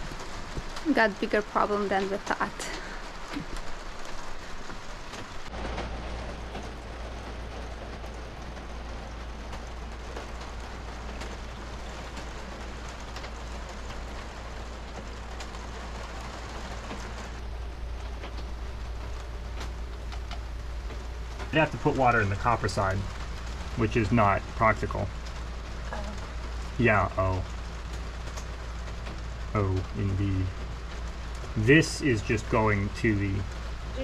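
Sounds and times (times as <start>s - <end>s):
low motor hum: 0.0s - 34.0s
air conditioning hiss: 2.6s - 34.0s.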